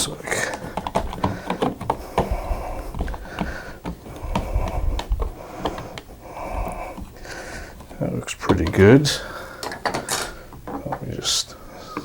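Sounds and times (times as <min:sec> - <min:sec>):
plastic wall plate clicking: 0:00.3 - 0:10.8.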